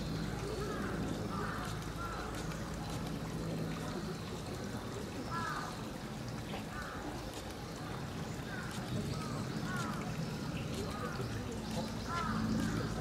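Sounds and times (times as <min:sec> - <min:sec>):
faint distant voices: 0:00.0 - 0:13.0
running water trickling: 0:00.0 - 0:13.0.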